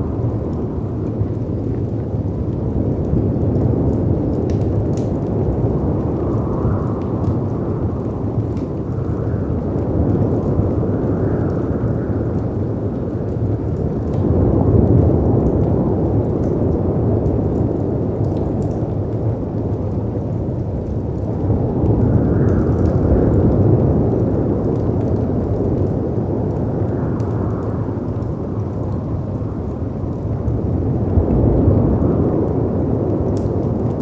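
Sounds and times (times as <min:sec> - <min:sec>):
fireplace crackling: 0:00.0 - 0:14.3, 0:16.2 - 0:34.0
rumble of wind and surf: 0:00.0 - 0:34.0.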